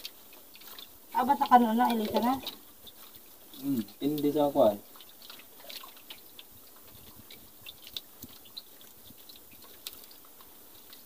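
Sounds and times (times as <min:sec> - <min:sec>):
light steady hiss: 0:00.0 - 0:11.0.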